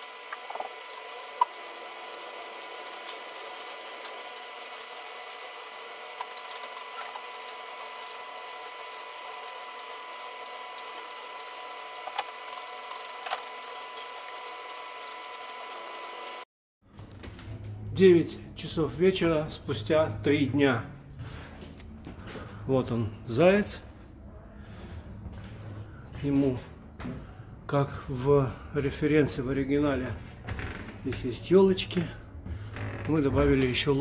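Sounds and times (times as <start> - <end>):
room hum: 0.0 - 34.0.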